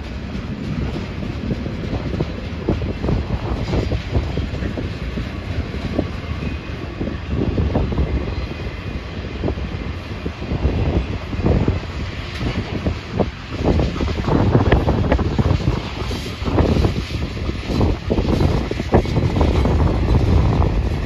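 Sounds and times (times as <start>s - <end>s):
steel wheels rumbling on rails: 0.0s - 21.0s
wheels and couplings clacking: 0.0s - 21.0s.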